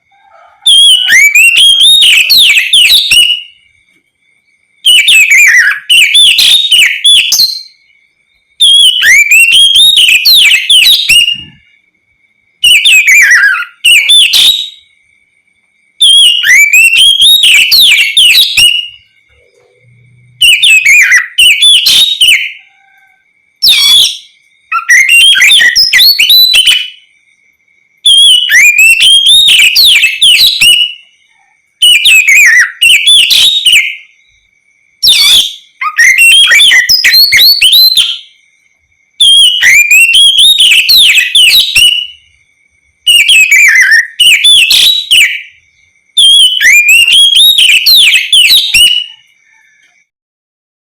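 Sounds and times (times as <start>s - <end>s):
faint steady high tone: 0.0s - 50.2s
bird singing whistled phrases: 0.1s - 3.7s, 4.8s - 8.0s, 8.6s - 11.7s, 12.6s - 15.0s, 15.9s - 27.1s, 28.0s - 34.4s, 35.0s - 38.5s, 39.2s - 42.3s, 43.1s - 45.6s, 46.2s - 50.1s.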